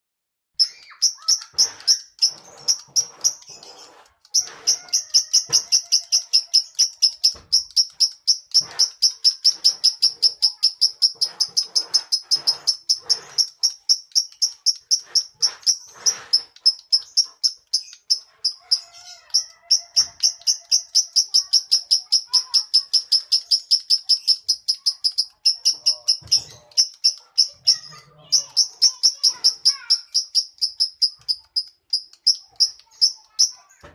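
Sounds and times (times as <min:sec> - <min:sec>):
lovebird chattering song: 0:00.6 - 0:33.8.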